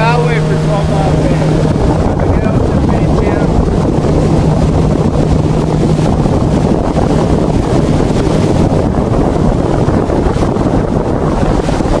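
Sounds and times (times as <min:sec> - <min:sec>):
boat motor drone: 0:00.0 - 0:12.0
wind rushing over microphone: 0:00.0 - 0:12.0.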